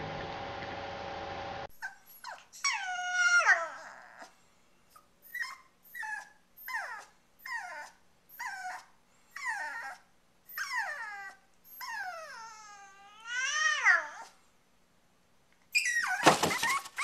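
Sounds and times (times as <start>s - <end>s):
puppy whimpering: 1.8s - 14.4s, 15.7s - 17.0s.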